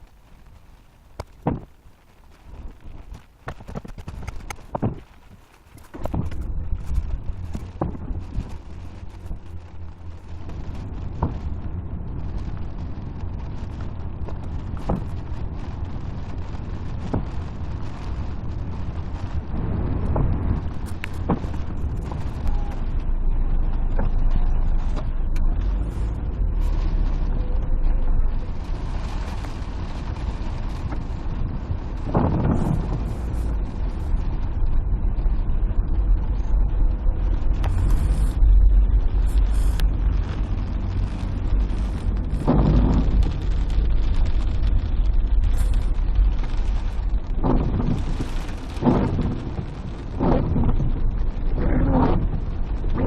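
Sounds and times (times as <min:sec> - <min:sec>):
rain hiss: 0:00.0 - 0:53.0
thunder rumble: 0:00.0 - 0:53.0
wind on microphone: 0:02.5 - 0:53.0.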